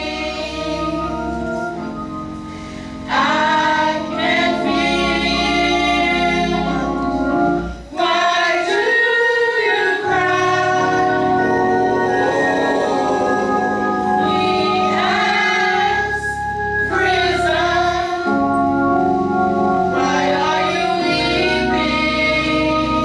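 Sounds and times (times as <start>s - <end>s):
choir singing a gospel song: 0.0s - 1.9s, 2.5s - 23.0s
organ chords: 0.0s - 23.0s.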